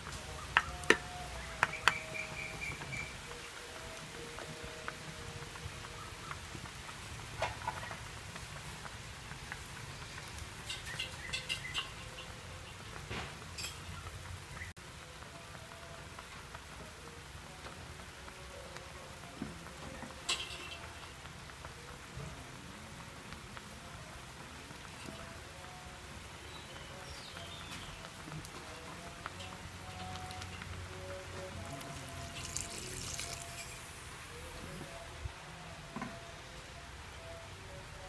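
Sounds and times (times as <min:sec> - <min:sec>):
curry sizzling in a pot: 0:00.0 - 0:35.0
burning wood crackling: 0:00.0 - 0:35.4.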